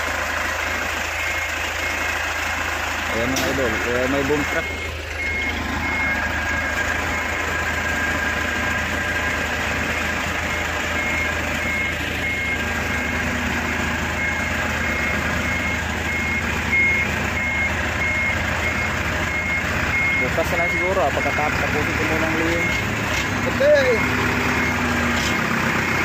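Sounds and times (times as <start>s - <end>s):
low engine hum: 0.0s - 26.0s
truck reversing alarm beeping: 0.0s - 26.0s.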